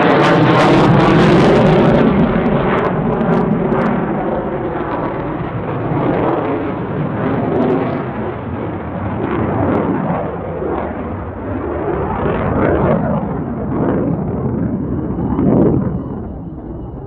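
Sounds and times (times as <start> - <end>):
jet flying overhead: 0.0 - 17.0.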